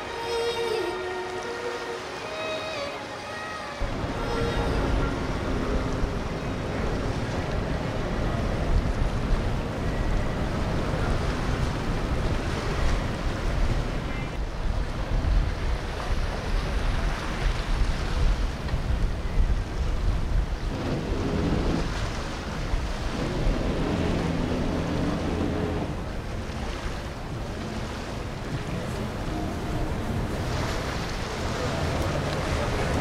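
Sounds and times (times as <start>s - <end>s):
outboard boat engines: 0.0s - 33.0s
water wash: 0.0s - 33.0s
wind buffeting microphone: 3.8s - 33.0s.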